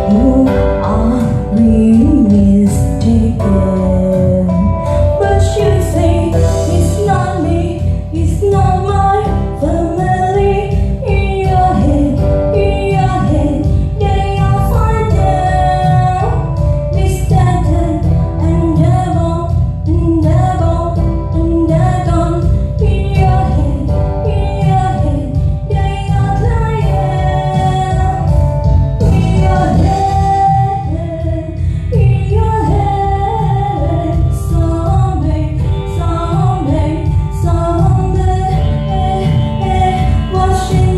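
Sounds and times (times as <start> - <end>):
heavy bass beat: 0.0 - 40.9
pop song with woman singing: 0.0 - 40.9.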